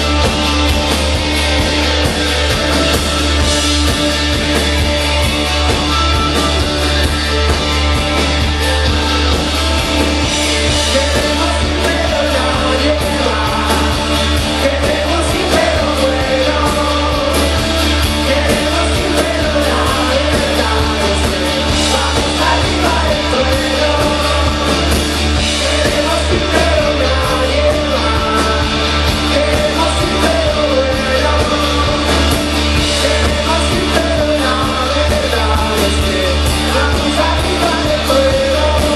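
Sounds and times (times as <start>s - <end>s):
live rock band playing: 0.0s - 38.9s
person singing: 0.0s - 38.9s.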